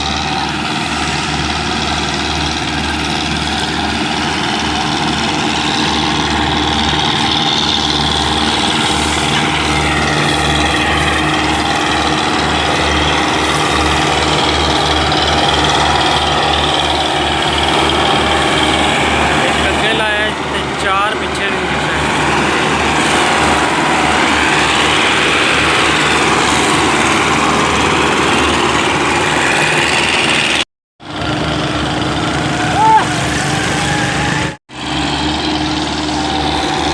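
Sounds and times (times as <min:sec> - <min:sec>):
tractor diesel engines straining: 0:00.0 - 0:36.9.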